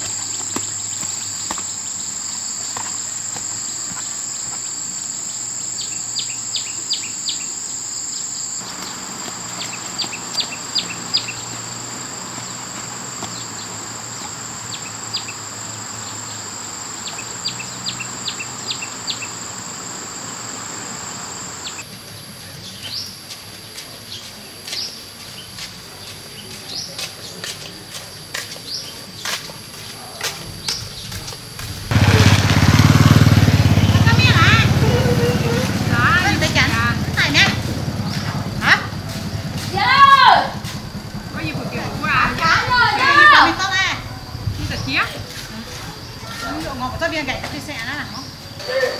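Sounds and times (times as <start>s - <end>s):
insects droning: 0.0s - 48.9s.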